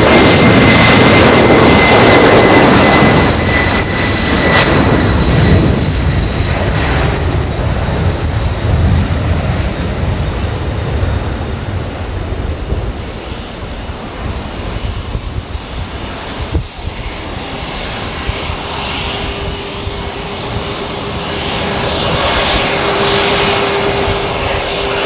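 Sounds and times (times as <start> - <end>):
high engine whine: 0.0 - 25.0
jet engines running: 0.0 - 25.0.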